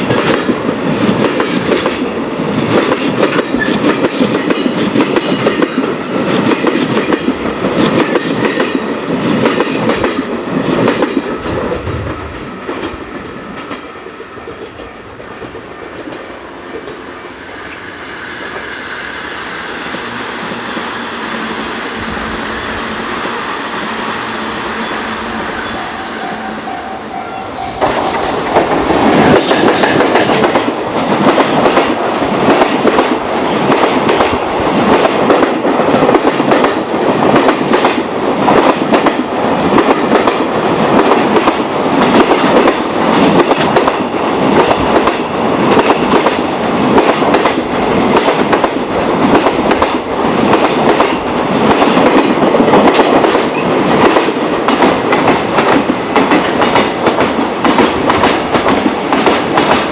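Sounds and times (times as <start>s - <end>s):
freight train wheels clattering: 0.0s - 18.8s, 27.5s - 59.9s.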